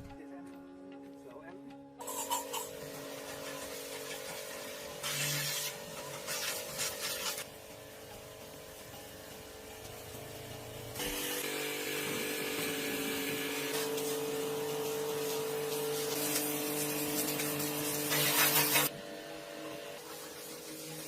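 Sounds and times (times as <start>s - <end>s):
power tool running: 2.0s - 21.0s.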